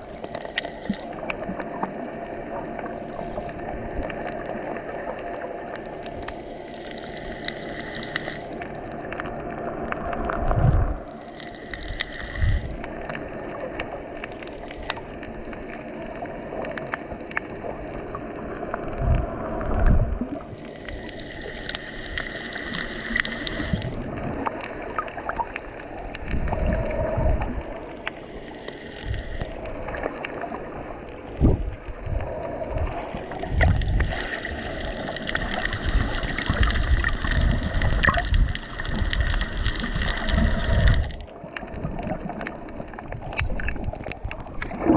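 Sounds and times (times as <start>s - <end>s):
muffled underwater wash: 0.0s - 44.9s
small clicks and crackles: 0.0s - 44.9s.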